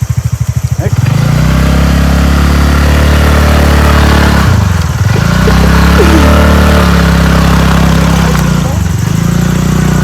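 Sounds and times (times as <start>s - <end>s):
scooter engine pulling uphill: 0.0s - 10.0s.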